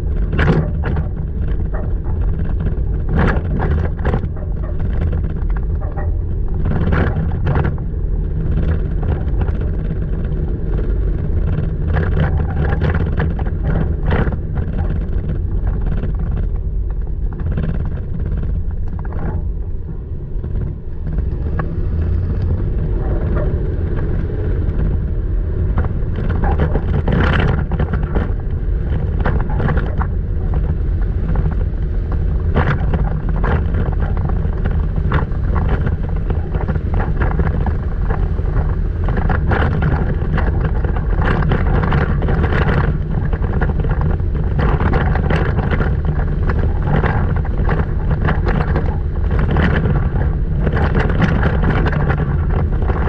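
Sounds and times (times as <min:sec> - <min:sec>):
truck engine and tyres rumbling: 0:00.0 - 0:53.0.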